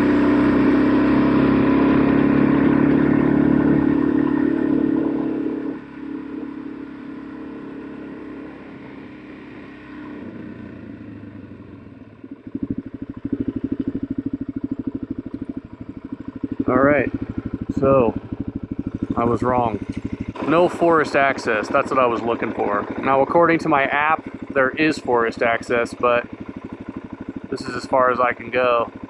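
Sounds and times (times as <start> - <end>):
motorcycle engine: 0.0 - 29.0.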